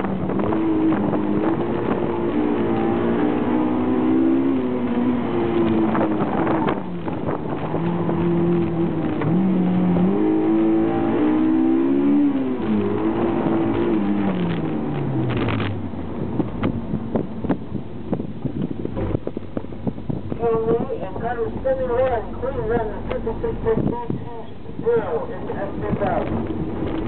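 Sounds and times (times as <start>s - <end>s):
car engine accelerating and braking: 0.0s - 27.0s.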